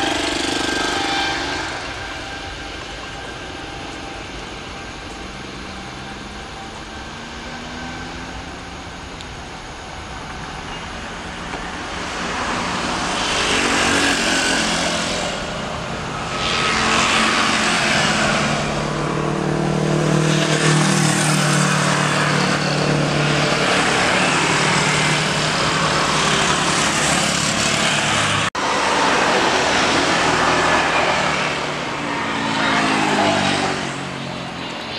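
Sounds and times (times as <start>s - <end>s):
jet engines roaring: 0.0s - 34.9s
rushing noise: 0.0s - 34.9s.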